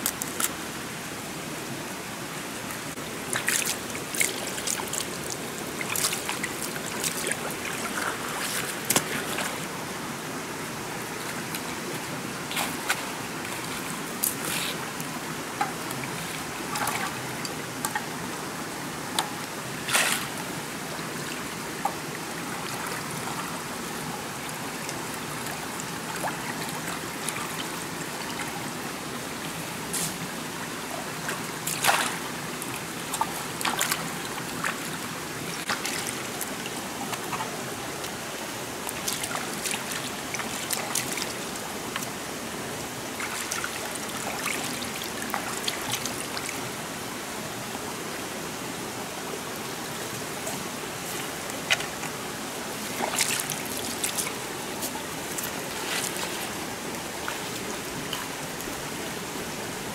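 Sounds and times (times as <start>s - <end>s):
shallow stream running: 0.0s - 59.9s
water splashes and sloshes: 0.0s - 59.9s.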